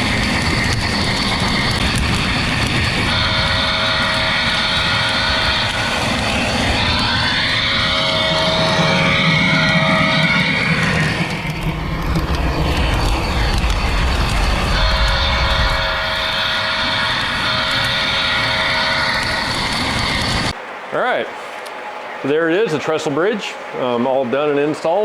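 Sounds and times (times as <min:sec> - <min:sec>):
model locomotive engine rumble: 0:00.0 - 0:20.6
two-note train horn: 0:00.0 - 0:20.6.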